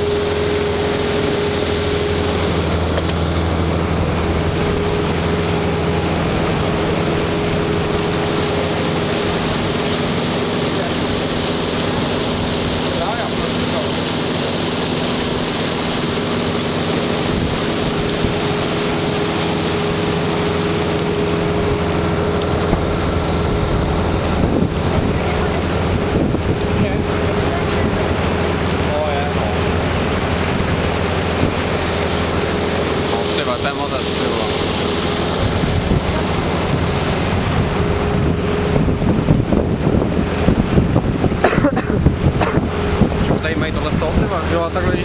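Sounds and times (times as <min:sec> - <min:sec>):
boat engine hum: 0:00.0 - 0:45.0
water rushing along hull: 0:00.0 - 0:45.0
wind buffeting microphone: 0:00.0 - 0:45.0.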